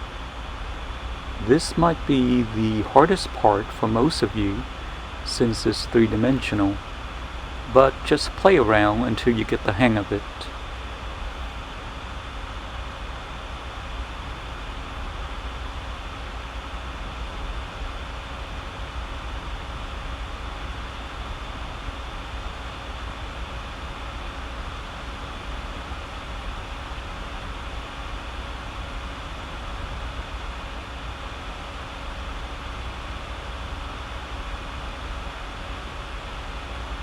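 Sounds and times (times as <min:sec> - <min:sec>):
steady hiss with low hum: 0:00.0 - 0:37.0.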